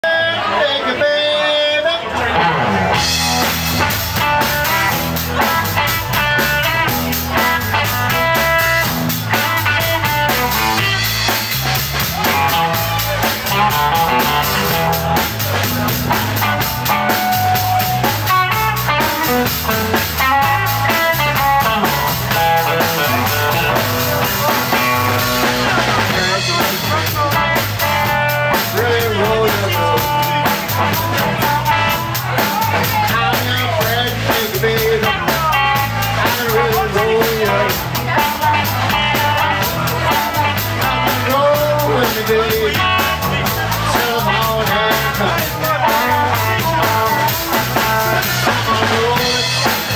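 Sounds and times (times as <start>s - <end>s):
electric blues band playing: 0.3s - 49.9s.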